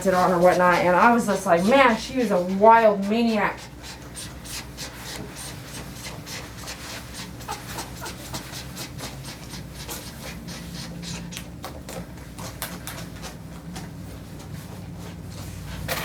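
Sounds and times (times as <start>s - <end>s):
brush scratching through dog fur: 0.0s - 16.0s.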